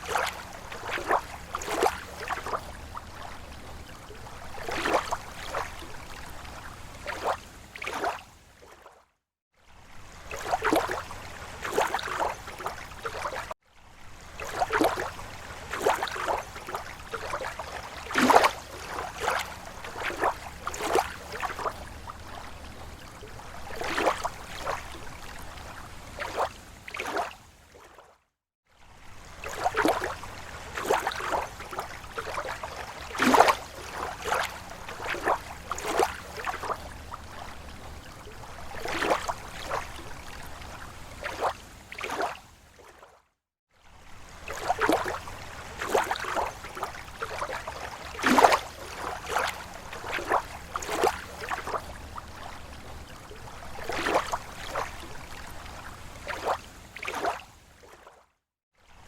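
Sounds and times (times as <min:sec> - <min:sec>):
small waves lapping on shore: 0:00.0 - 0:59.0.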